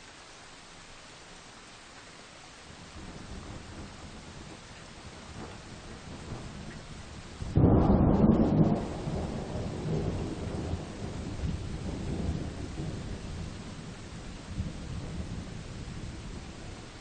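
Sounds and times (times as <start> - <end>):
steady rain: 0.0 - 17.0
thunder clap and rumble: 3.0 - 17.0.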